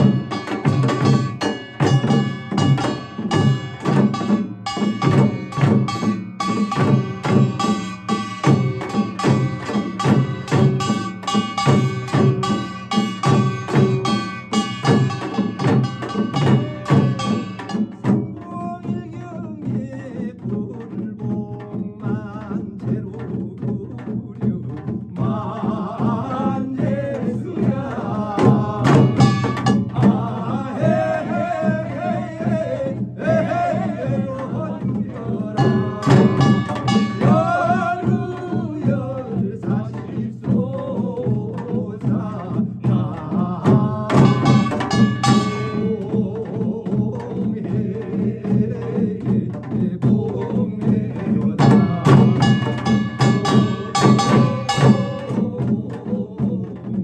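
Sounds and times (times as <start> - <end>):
drums playing fast rhythm: 0.0 - 57.0
man singing chant: 0.0 - 57.0.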